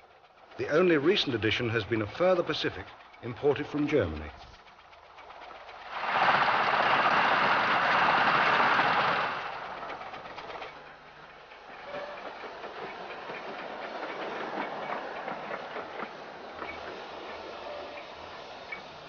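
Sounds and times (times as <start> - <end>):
rhythmic rail clicking: 0.0 - 19.0
steam train running: 0.0 - 19.0.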